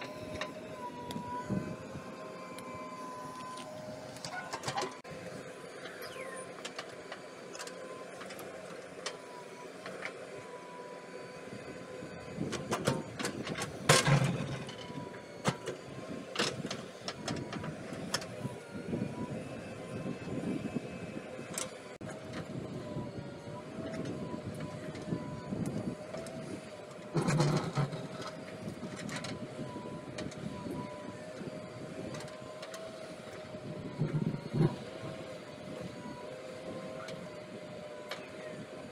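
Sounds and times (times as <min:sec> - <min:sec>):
diesel engine running: 0:00.0 - 0:38.9
steady whine: 0:00.0 - 0:38.9.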